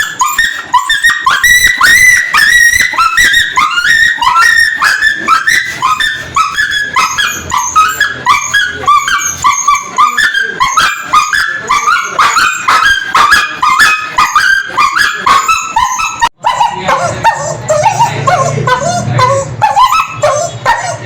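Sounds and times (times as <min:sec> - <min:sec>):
dog yelping and whimpering: 0:00.0 - 0:21.0.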